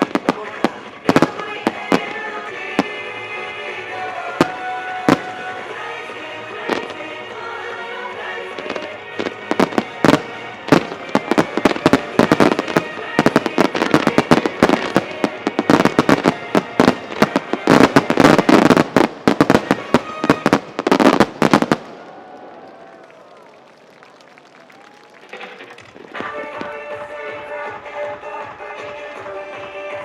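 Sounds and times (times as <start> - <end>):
background music: 0.0 - 21.7, 25.4 - 30.0
fireworks bursting and crackling: 0.0 - 30.0.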